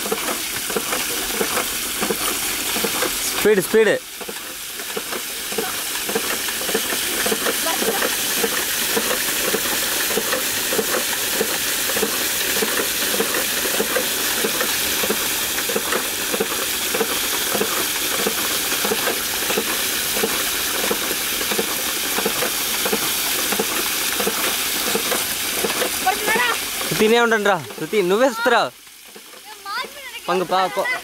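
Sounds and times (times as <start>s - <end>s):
bicycle tyres spraying water: 0.0s - 31.0s.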